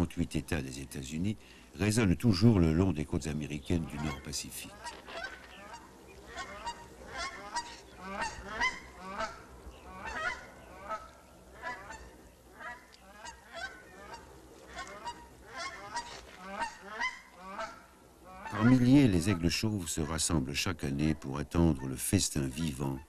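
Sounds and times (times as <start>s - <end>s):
eagles calling: 0.7s - 23.0s.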